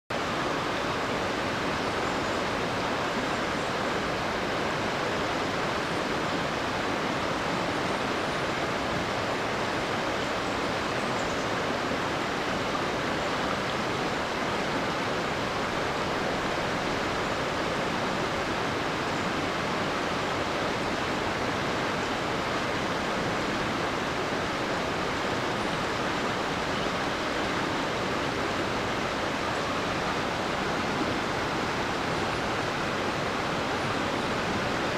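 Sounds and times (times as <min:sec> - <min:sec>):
river rushing over boulders: 0:00.1 - 0:34.9.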